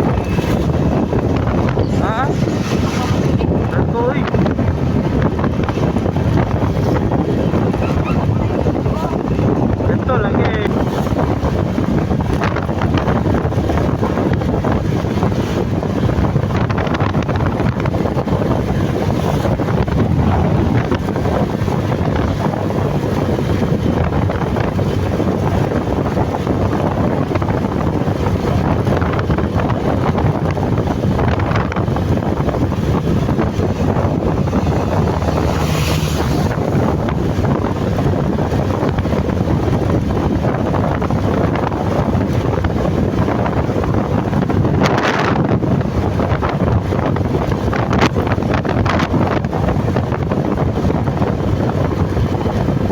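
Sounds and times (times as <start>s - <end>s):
wind roaring over microphone: 0.0s - 52.9s.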